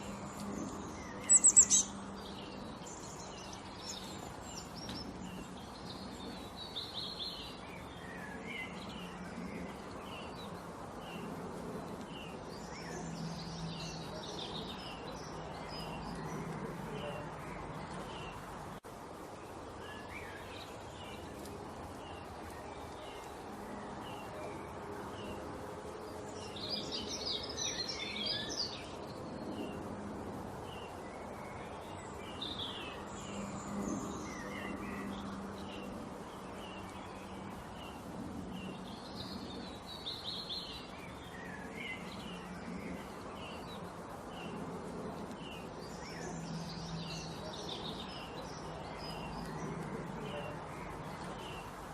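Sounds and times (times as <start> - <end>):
background hiss: 0.0 - 51.9
small songbirds chirping: 0.0 - 51.9.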